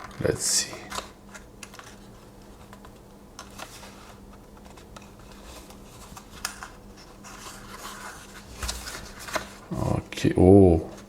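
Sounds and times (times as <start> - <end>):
paper packaging rustling: 0.0 - 9.9.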